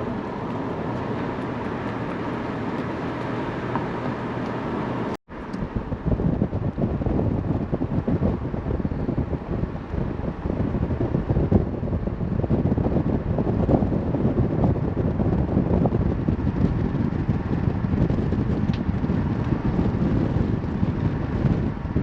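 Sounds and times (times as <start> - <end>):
road and wind noise in car: 0.0 - 22.0.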